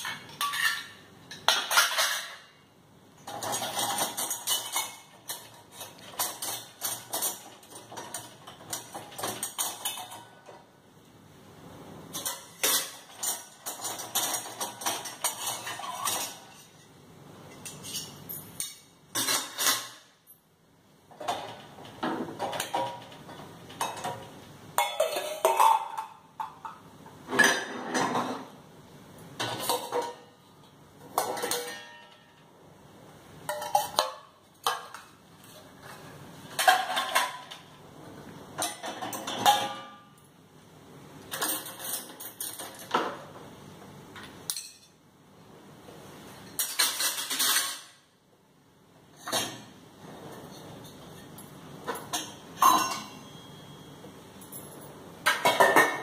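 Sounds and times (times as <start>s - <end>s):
metal dishes and cutlery clattering: 0.0s - 2.6s, 3.2s - 10.7s, 12.1s - 20.4s, 21.1s - 28.6s, 29.4s - 32.5s, 33.4s - 37.9s, 38.5s - 40.4s, 41.3s - 43.4s, 44.4s - 45.0s, 46.4s - 48.2s, 49.1s - 56.0s.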